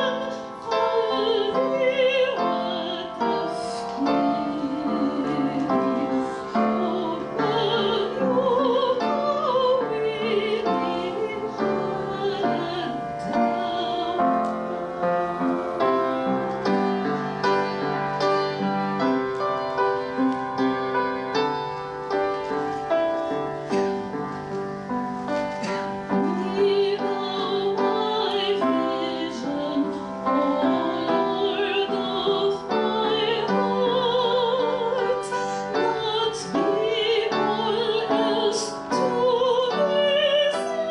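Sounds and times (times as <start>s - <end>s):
piano accompaniment: 0.0s - 40.9s.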